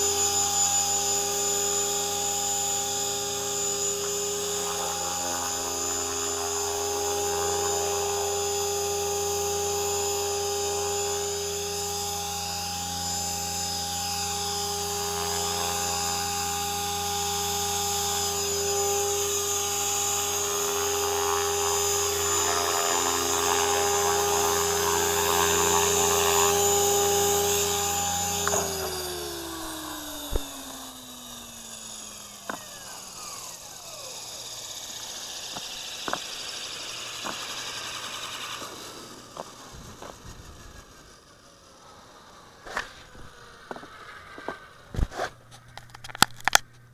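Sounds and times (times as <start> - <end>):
rotor spinning down: 0.0 - 46.6
rc helicopter rotor whine: 0.0 - 46.9.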